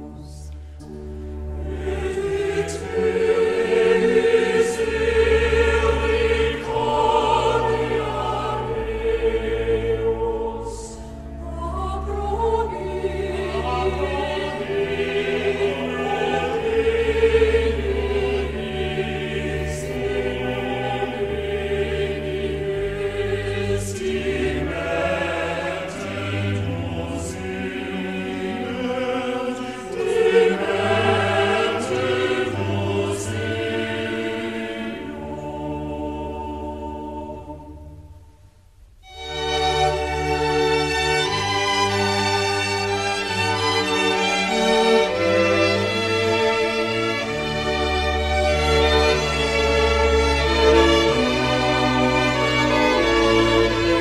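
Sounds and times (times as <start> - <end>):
choir singing long held notes: 0.0 - 54.0
sustained low accompaniment: 0.0 - 54.0.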